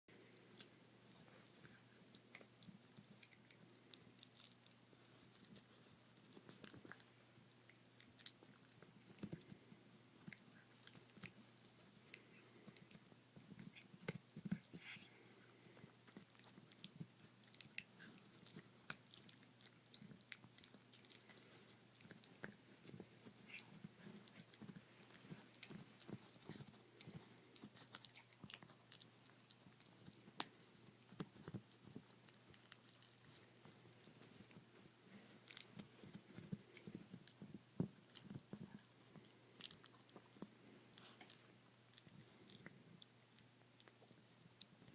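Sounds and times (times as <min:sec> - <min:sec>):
dog gnawing on a bone: 0:00.2 - 0:44.9.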